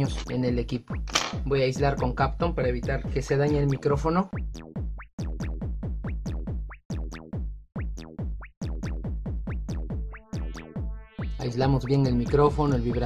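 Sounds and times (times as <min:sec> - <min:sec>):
electronic music with drum-machine beat: 0:00.0 - 0:13.0.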